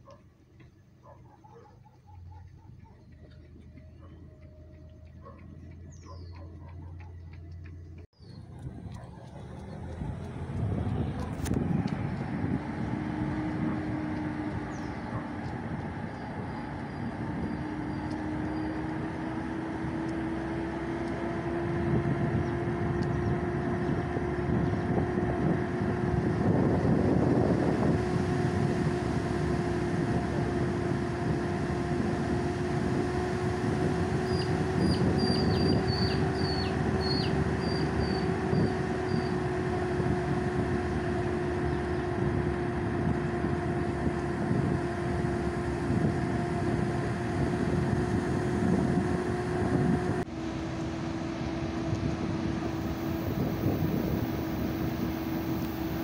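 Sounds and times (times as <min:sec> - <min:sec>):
road rumble: 0:00.0 - 0:56.0
vehicle engine droning: 0:00.0 - 0:56.0.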